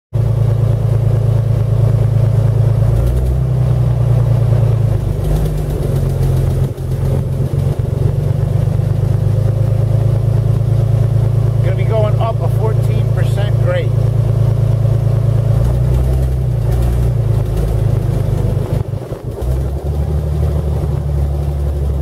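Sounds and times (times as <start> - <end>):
car engine running: 0.1 - 22.0.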